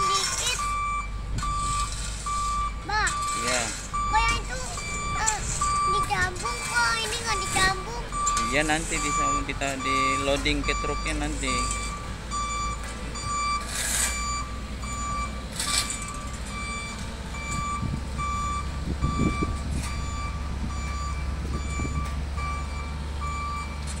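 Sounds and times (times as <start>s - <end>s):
diesel engine running: 0.0s - 24.0s
backup alarm beeping: 0.5s - 23.8s.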